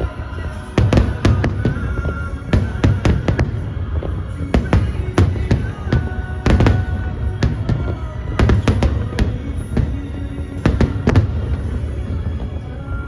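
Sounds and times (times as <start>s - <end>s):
continuous low rumble: 0.0s - 13.0s
fireworks bangs: 0.0s - 13.0s.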